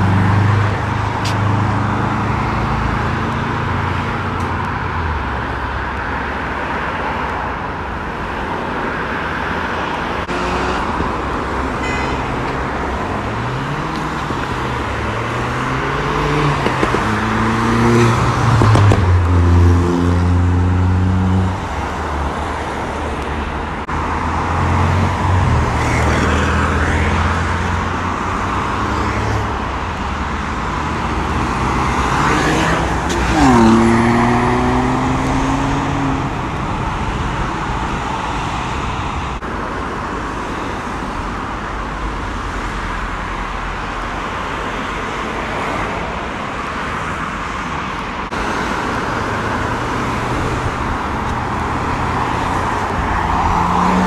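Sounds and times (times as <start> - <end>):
traffic and tyre noise: 0.0 - 54.0
cars accelerating hard: 9.1 - 41.1, 42.4 - 54.0.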